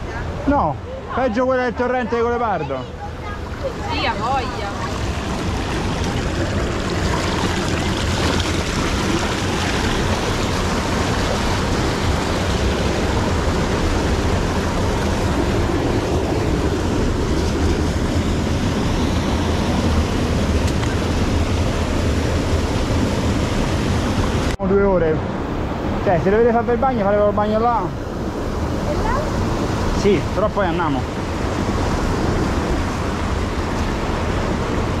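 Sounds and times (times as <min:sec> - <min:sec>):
stream rushing over boulders: 0:00.0 - 0:35.0.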